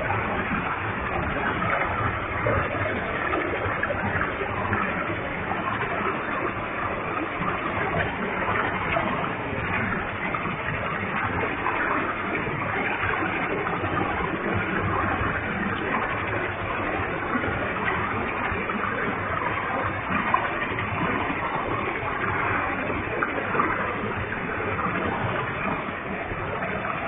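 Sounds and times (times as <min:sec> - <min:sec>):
waterfall pouring and splashing: 0:00.0 - 0:27.0.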